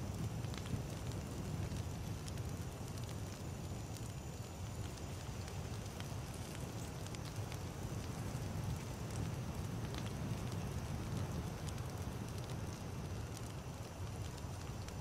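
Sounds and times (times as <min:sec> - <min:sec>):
campfire flames rumbling: 0:00.0 - 0:15.0
wood crackling and popping: 0:00.0 - 0:15.0.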